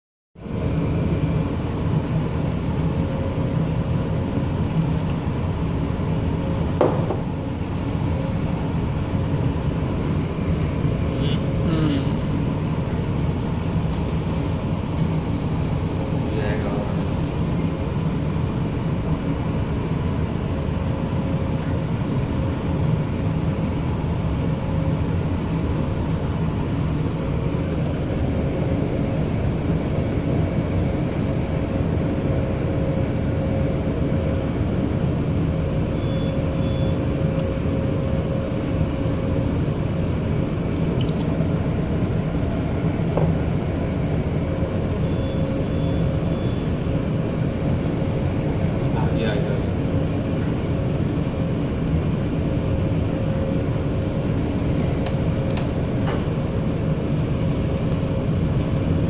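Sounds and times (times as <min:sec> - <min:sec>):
ship engine hum and rumble: 0:00.4 - 0:59.0.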